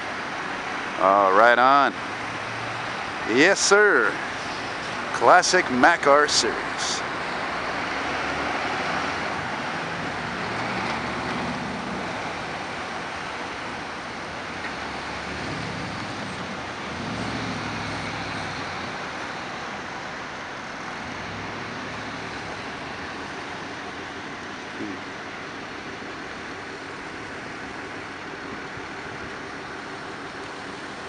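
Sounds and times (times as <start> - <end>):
street traffic passing: 0.0 - 31.0
truck diesel engine pulling away: 0.0 - 31.0.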